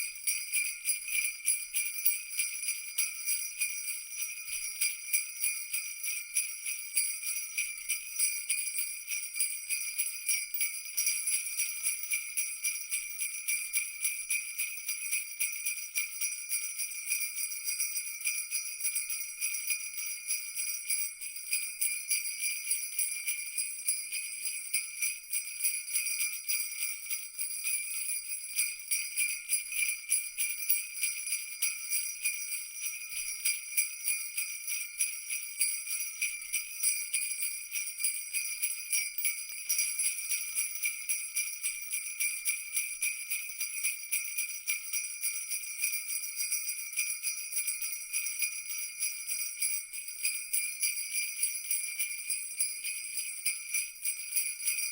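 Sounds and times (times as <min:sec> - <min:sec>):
sleigh bells shaking: 0:00.0 - 0:54.9.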